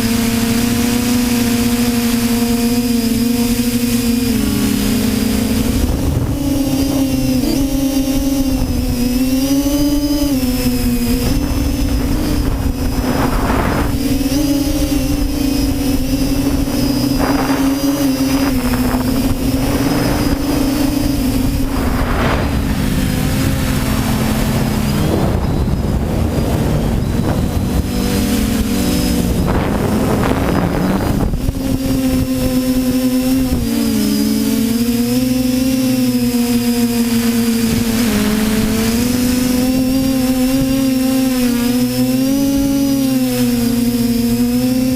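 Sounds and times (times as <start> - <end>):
drone motors and propellers whining: 0.0 - 44.9
wind gusts on microphone: 0.0 - 44.9.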